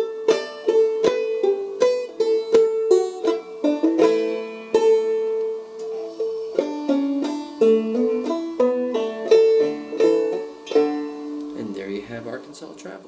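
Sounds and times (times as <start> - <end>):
banjo plucking and strumming: 0.0 - 13.0.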